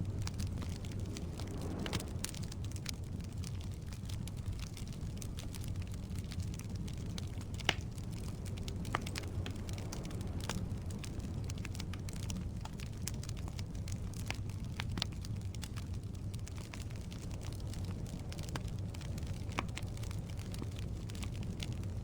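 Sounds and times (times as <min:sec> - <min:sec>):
crackles and pops of fire: 0:00.0 - 0:22.0
fire burning in fireplace: 0:00.0 - 0:22.0.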